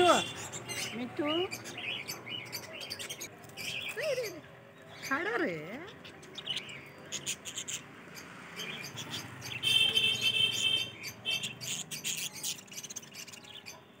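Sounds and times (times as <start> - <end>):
budgerigars chattering: 0.0 - 4.0, 5.0 - 13.8.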